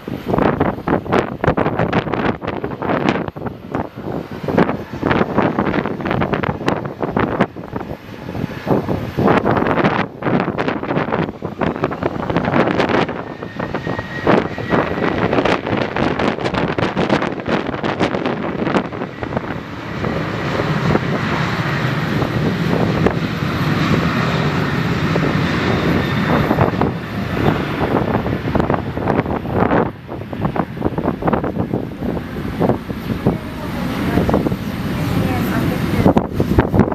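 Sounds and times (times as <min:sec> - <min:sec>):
jet engines running up: 0:00.0 - 0:36.9
wind buffeting microphone: 0:00.0 - 0:36.9.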